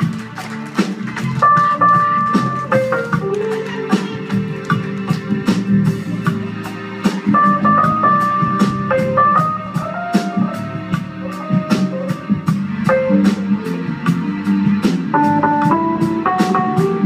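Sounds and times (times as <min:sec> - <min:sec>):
drums keeping a steady beat: 0:00.0 - 0:17.0
live jazz band playing: 0:00.0 - 0:17.0.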